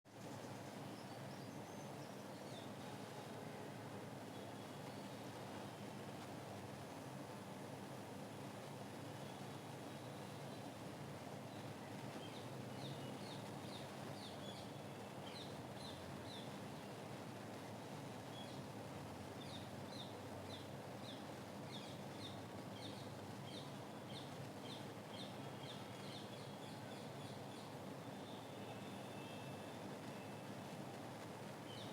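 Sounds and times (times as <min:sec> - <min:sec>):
background hiss: 0:00.1 - 0:31.9.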